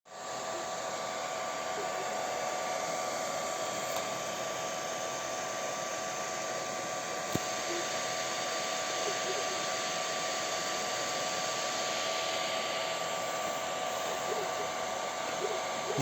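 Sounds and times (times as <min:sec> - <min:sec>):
printer fan whirring: 0:00.1 - 0:16.0.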